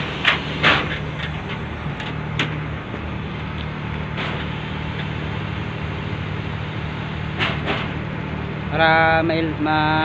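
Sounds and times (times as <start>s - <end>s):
truck engine idling: 0.0s - 9.6s.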